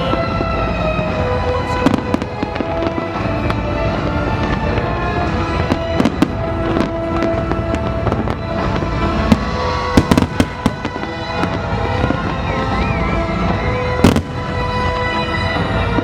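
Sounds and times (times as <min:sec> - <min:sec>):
fireworks bangs: 0:00.0 - 0:16.0
music: 0:00.0 - 0:16.0.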